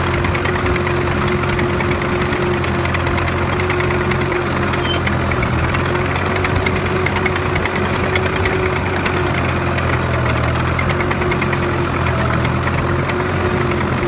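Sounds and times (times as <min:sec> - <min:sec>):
tractor engine droning: 0:00.0 - 0:14.0.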